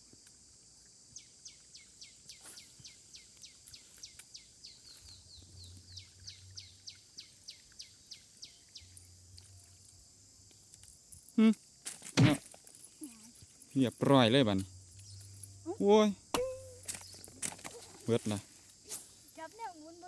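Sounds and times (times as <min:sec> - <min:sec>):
high insect hiss: 0:00.0 - 0:20.0.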